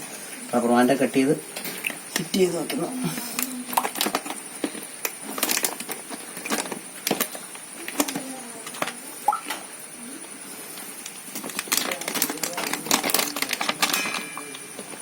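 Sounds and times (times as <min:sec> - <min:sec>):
hands handling plastic bag: 0:01.6 - 0:09.6, 0:10.7 - 0:15.0.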